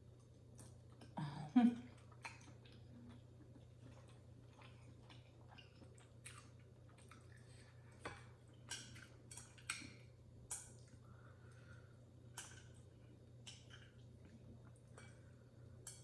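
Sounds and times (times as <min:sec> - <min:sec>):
low steady hum: 0:00.0 - 0:16.0
chewing noodles: 0:01.9 - 0:16.0.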